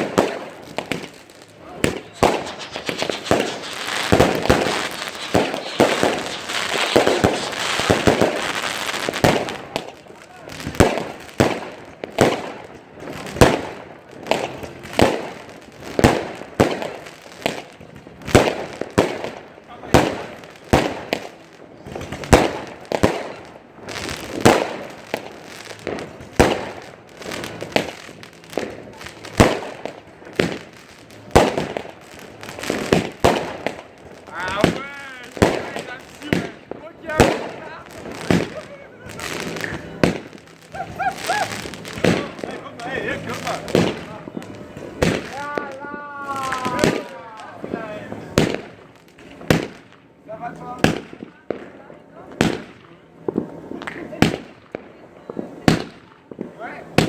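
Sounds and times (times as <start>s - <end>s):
firework bangs: 0.0s - 57.0s
fireworks crackling: 0.0s - 57.0s.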